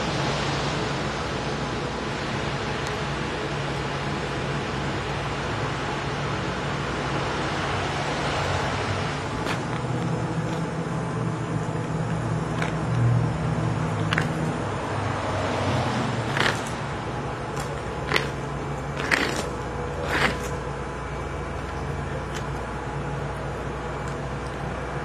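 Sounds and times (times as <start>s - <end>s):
street traffic: 0.0s - 25.0s
vehicle engine humming: 0.0s - 25.0s.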